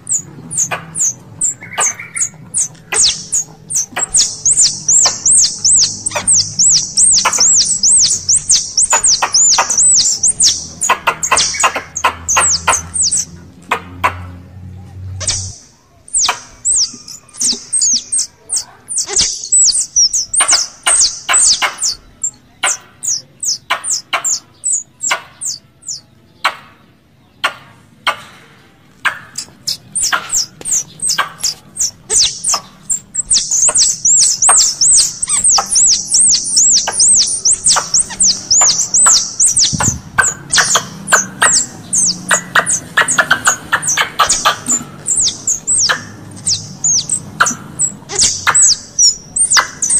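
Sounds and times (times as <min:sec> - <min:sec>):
squirrel chirps and clicks: 0:00.0 - 0:14.4, 0:15.2 - 0:26.6, 0:29.0 - 0:49.9.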